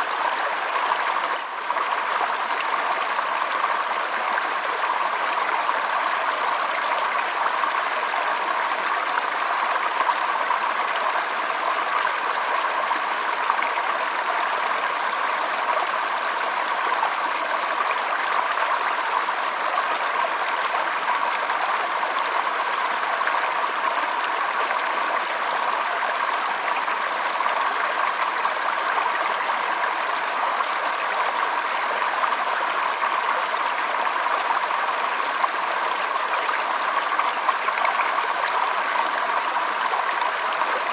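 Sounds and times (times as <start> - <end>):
stream running water: 0.0 - 40.9.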